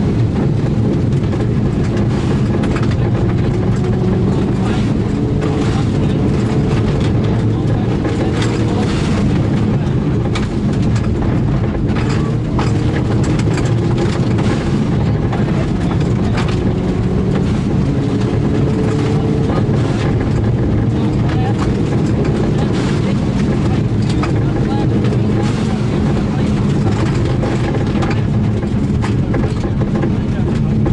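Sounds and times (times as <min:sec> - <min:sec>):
gravel striking car: 0:00.0 - 0:30.9
rally car engine running hard: 0:00.0 - 0:30.9.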